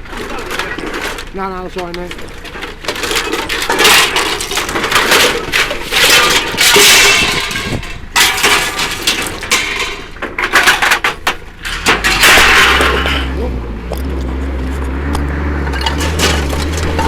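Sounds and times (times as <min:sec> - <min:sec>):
scrap metal clattering: 0:00.0 - 0:17.0.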